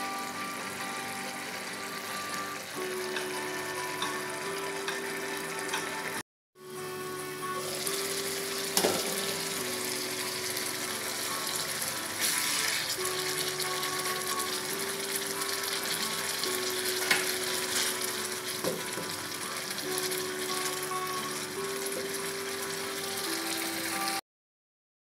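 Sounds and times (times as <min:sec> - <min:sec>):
background music with held notes: 0:00.0 - 0:24.2
food sizzling in hot oil: 0:00.0 - 0:24.2.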